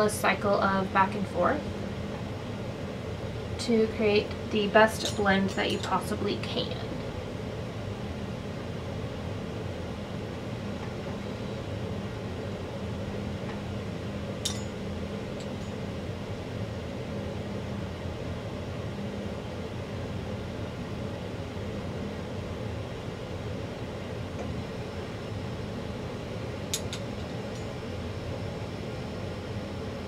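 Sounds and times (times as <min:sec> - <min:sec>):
room hum drone: 0:00.0 - 0:30.0.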